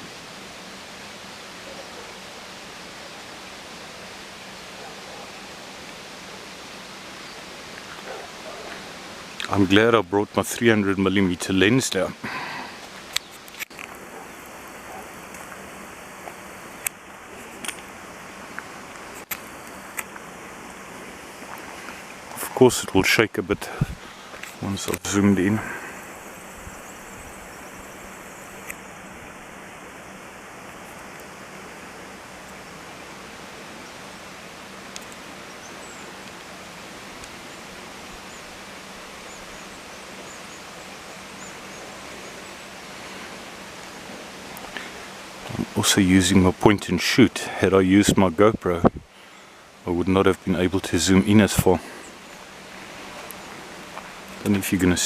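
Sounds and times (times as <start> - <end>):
background hiss: 0.0 - 55.0
rushing outdoor background noise: 0.0 - 55.0.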